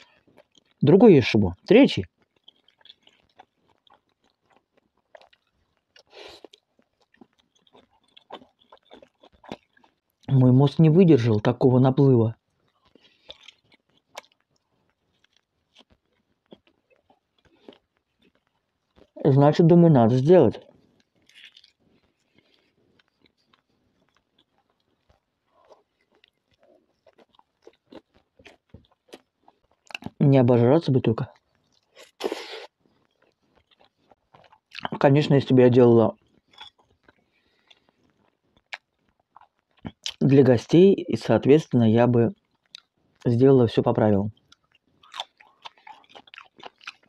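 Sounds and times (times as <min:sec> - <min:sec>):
faint chewing: 0:00.0 - 0:00.9, 0:01.6 - 0:10.4, 0:12.3 - 0:19.3, 0:20.1 - 0:30.2, 0:31.1 - 0:35.1, 0:35.8 - 0:40.4, 0:42.1 - 0:43.3, 0:44.3 - 0:47.0.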